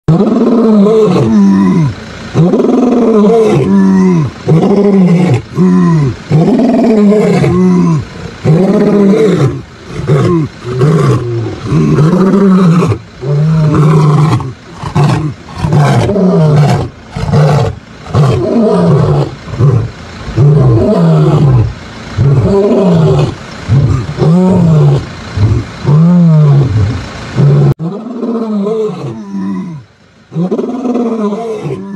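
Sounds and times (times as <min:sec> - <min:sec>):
lions roaring: 0:00.1 - 0:31.9.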